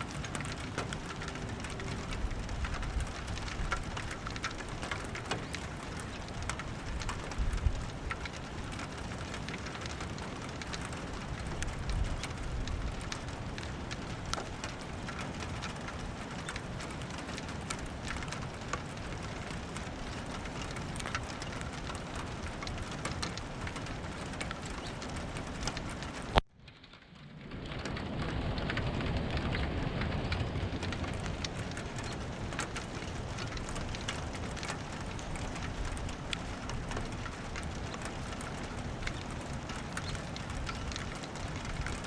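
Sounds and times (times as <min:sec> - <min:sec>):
raindrops ticking close by: 0:00.0 - 0:42.0
steady rain falling: 0:00.0 - 0:42.0.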